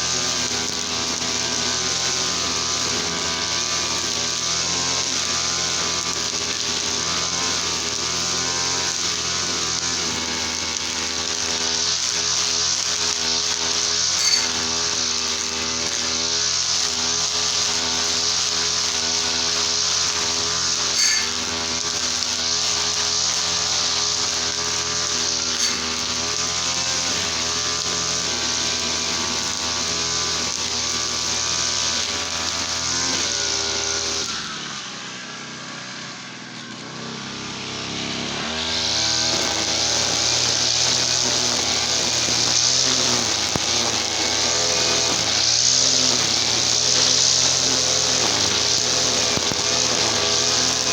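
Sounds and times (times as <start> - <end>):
brush cutter engine revving: 0.0 - 50.9.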